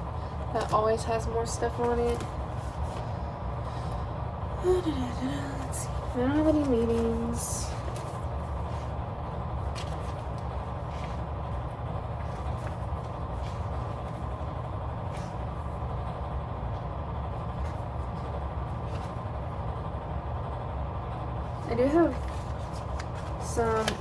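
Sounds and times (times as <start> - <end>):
steady low hum: 0.0 - 24.0
paper pages rustling: 0.2 - 3.2, 5.2 - 19.7, 21.7 - 24.0.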